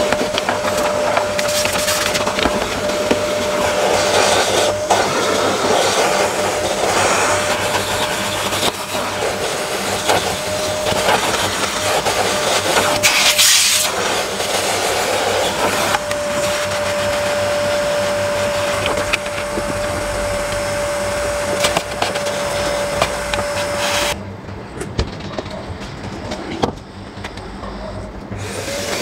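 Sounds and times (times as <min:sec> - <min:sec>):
vacuum cleaner whine: 0:00.0 - 0:24.2, 0:26.1 - 0:29.0.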